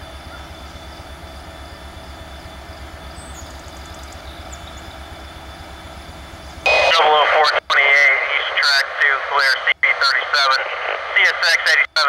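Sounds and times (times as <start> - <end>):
diesel locomotive engine rumble: 0.0 - 12.0
train running noise: 0.0 - 12.0.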